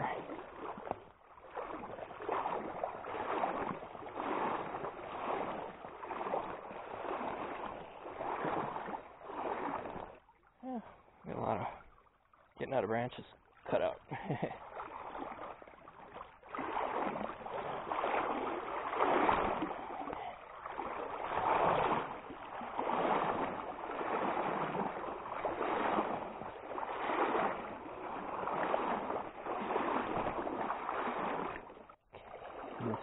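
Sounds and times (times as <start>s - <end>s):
water swishing around legs: 0.0s - 33.0s.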